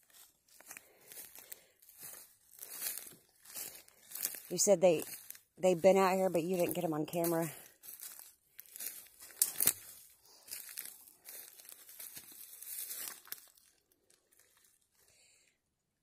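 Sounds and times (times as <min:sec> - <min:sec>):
dry leaves and brush rustling: 0:00.0 - 0:15.1.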